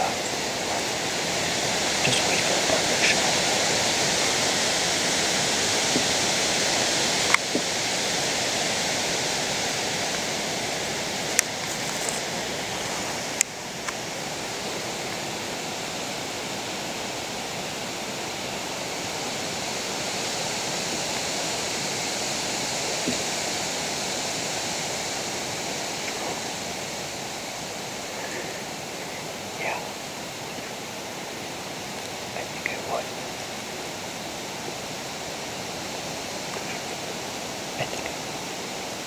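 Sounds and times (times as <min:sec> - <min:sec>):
steady rushing noise: 0:00.0 - 0:39.0.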